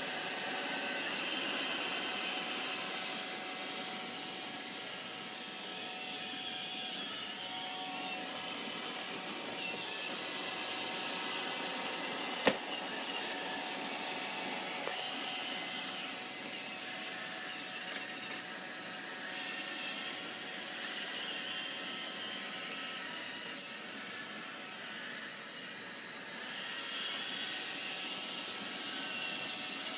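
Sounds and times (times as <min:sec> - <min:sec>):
robot vacuum whirring: 0:00.0 - 0:29.9.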